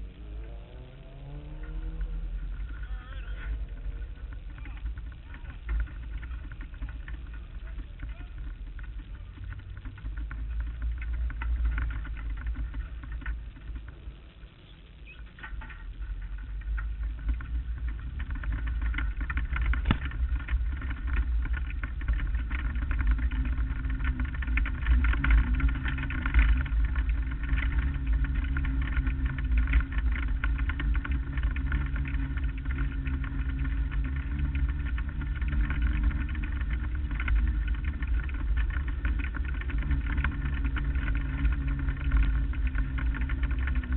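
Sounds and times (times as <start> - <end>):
race car engine running: 0.0 - 43.9
wind rumble: 0.0 - 43.9.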